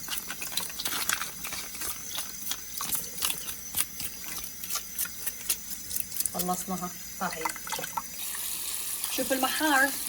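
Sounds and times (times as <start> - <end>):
water running in sink: 0.0 - 10.0.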